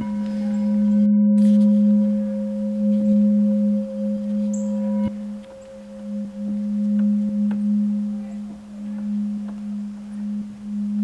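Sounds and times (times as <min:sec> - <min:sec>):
singing bowl drone: 0:00.0 - 0:11.0.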